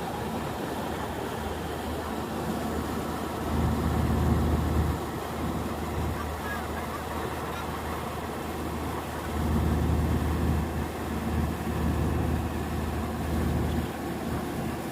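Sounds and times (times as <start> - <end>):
engine running: 0.0 - 14.9.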